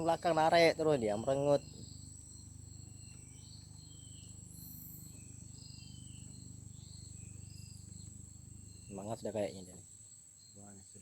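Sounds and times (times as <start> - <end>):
faint low hum: 0.0 - 11.0
insect chirps: 0.0 - 11.0
insects droning: 0.0 - 11.0.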